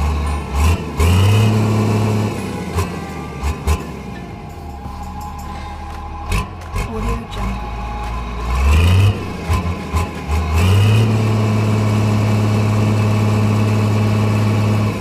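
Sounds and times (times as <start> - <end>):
heavy vehicle engine: 0.0 - 15.0.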